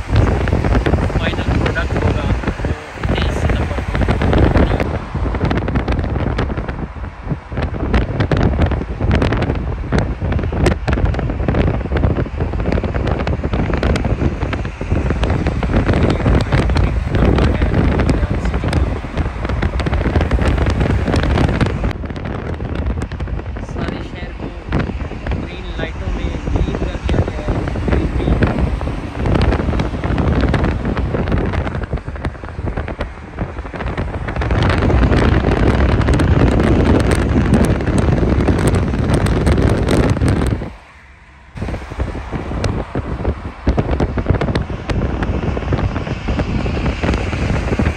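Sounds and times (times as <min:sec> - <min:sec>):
road noise of passing traffic: 0:00.0 - 0:47.9
wind buffeting microphone: 0:00.0 - 0:47.9.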